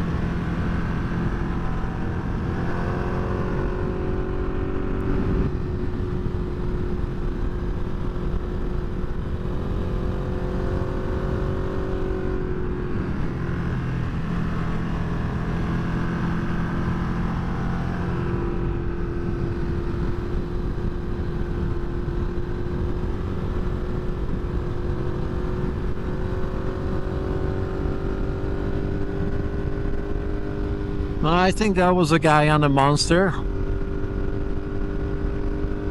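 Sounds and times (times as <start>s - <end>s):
motorcycle engine cruising: 0.0s - 35.9s.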